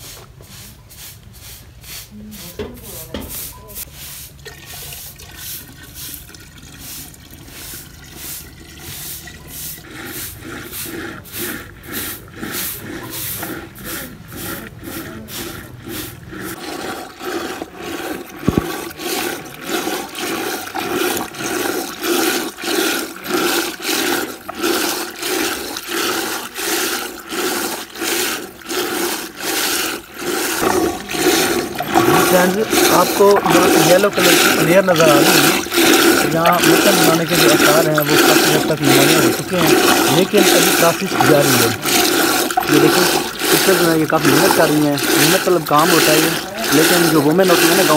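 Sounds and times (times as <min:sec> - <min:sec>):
rhythmic sloshing of churned milk: 0:00.0 - 0:47.9.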